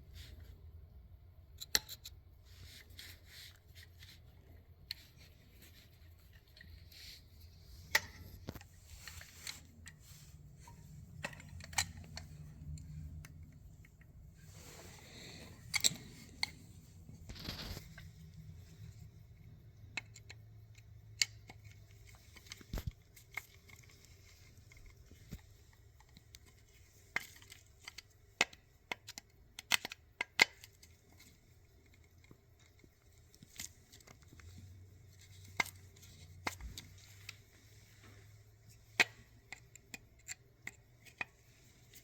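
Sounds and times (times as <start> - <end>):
faint low hum: 0.0 - 42.0
metallic clicks and taps: 1.6 - 2.2, 7.8 - 14.2, 15.4 - 42.0.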